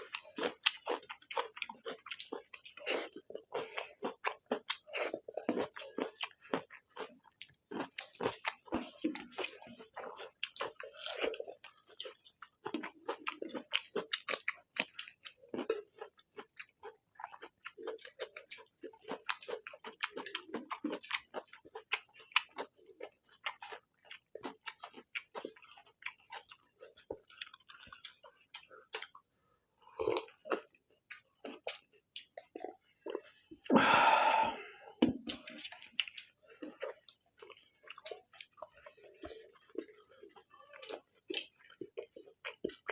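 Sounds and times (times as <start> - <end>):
wet chewing and lip-smacking: 0.0 - 33.7, 35.0 - 42.9.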